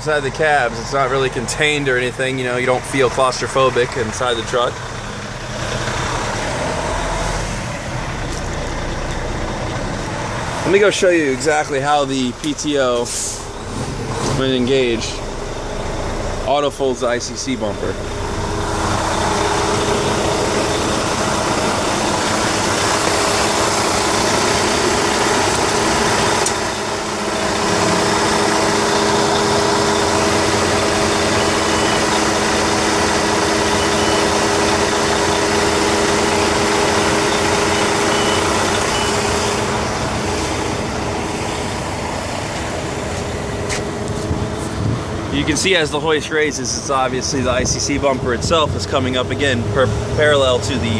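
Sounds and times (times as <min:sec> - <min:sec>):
diesel truck engine running: 0:00.0 - 0:50.9
hydraulic hoist whine: 0:05.0 - 0:45.9.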